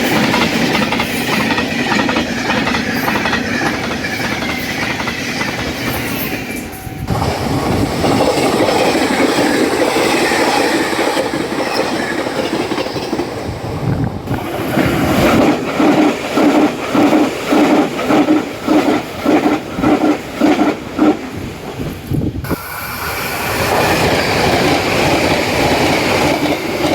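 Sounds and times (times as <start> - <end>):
train wheels rushing on rail: 0.0 - 26.9.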